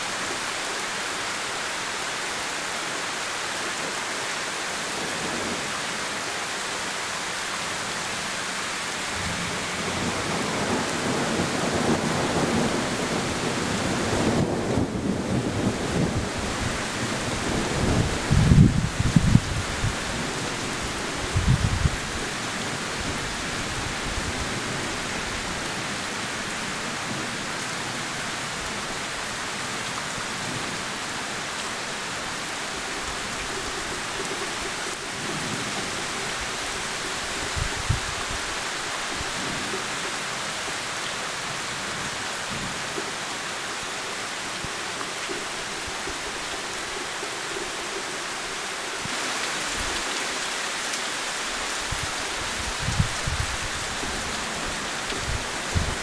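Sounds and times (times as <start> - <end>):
heavy rain on trees and ground: 0.0 - 56.0.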